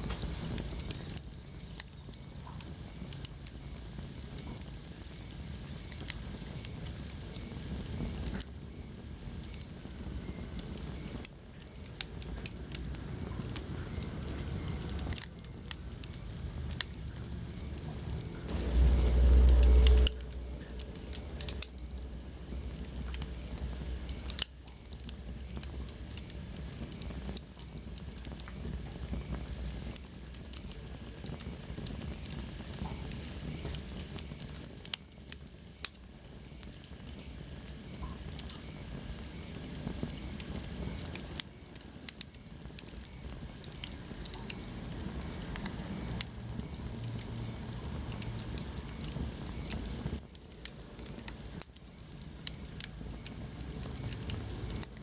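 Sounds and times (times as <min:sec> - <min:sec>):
fire popping and snapping: 0:00.0 - 0:55.0
soft hiss: 0:00.0 - 0:55.0
wood fire crackling: 0:00.0 - 0:55.0.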